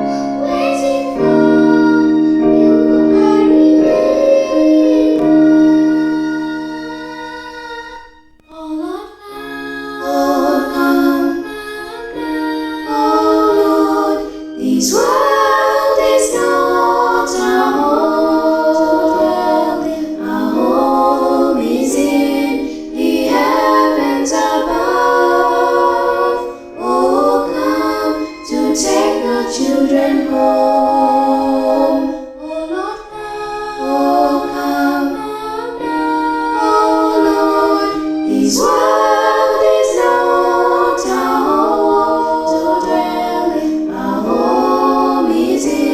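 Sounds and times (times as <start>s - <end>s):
vocal group singing a cappella: 0.0s - 45.9s.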